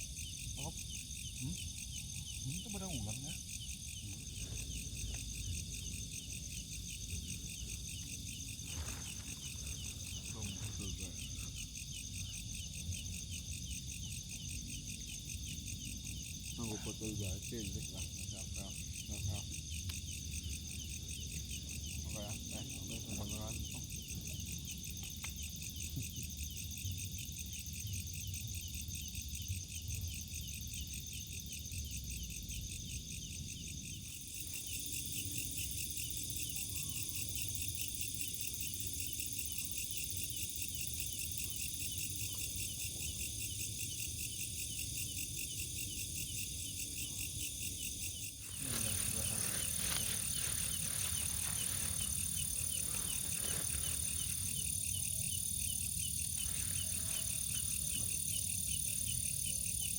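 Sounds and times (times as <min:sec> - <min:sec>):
crickets and insects trilling: 0:00.0 - 0:59.9.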